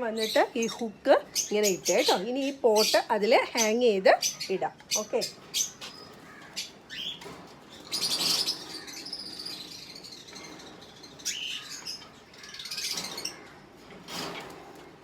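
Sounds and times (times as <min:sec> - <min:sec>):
cockatiels chirping and calling: 0:00.2 - 0:14.7.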